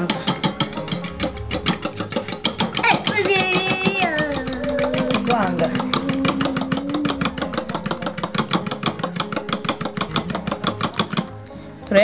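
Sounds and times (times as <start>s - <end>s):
fork beating eggs in metal bowl: 0.0s - 11.5s.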